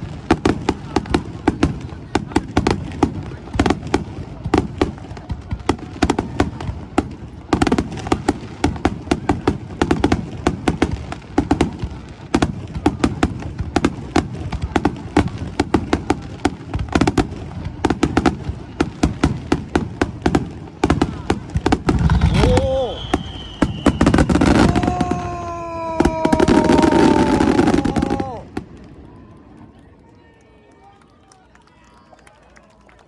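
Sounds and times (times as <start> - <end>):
fireworks bangs and crackles: 0.0 - 30.5.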